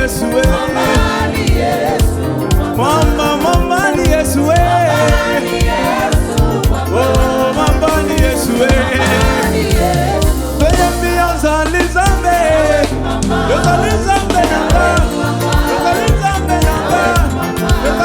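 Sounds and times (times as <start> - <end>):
bass line: 0.0 - 18.0
drum strikes: 0.0 - 18.0
person singing melody: 0.0 - 18.0
worship band playing: 0.0 - 18.0.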